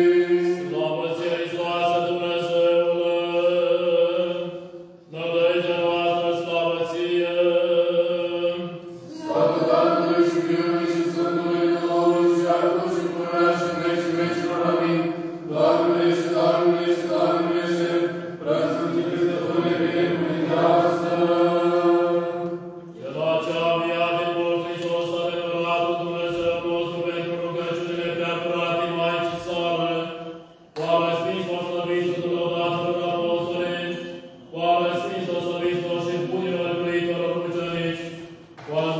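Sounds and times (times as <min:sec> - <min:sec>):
men chanting: 0:00.0 - 0:38.9.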